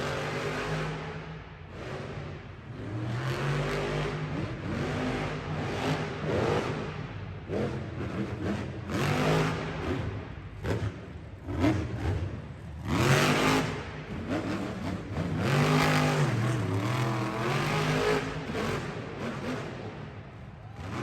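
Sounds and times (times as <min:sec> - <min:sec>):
monster truck engine revving: 0:00.0 - 0:20.2, 0:20.8 - 0:21.0.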